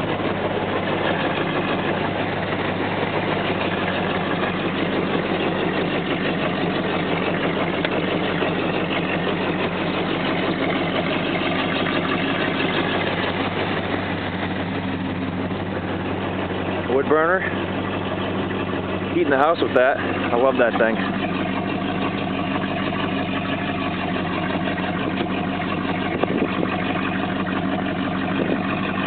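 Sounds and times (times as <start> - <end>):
pickup engine idling: 0.0 - 29.0.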